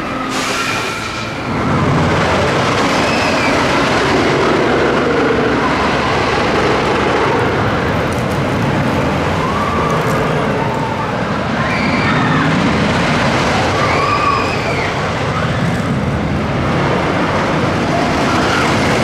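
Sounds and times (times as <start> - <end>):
roller coaster rumbling on wooden track: 0.0 - 19.0.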